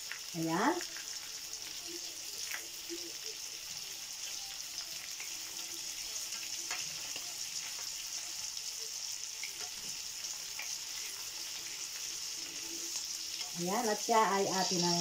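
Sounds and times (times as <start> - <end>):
fish sizzling in a frying pan: 0.0 - 15.0.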